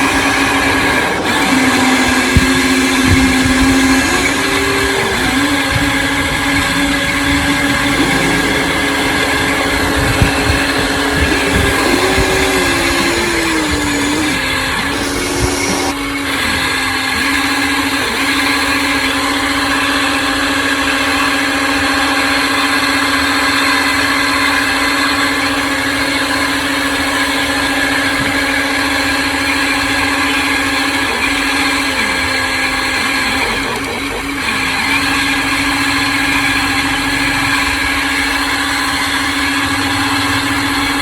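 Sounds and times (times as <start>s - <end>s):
small electric motor whining: 0.0s - 41.0s.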